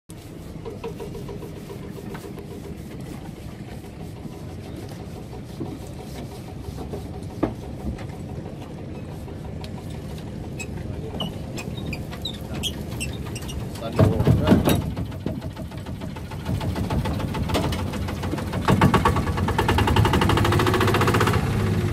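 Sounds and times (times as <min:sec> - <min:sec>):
boat engine throbbing: 0:00.1 - 0:21.9.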